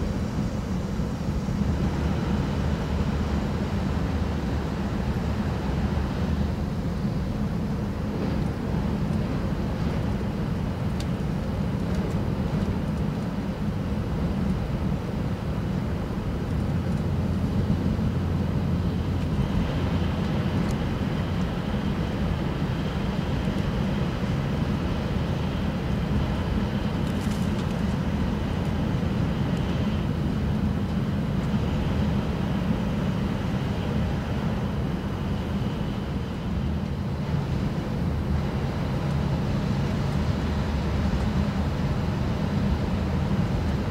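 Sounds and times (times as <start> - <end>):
train interior rumble and hum: 0.0 - 43.9.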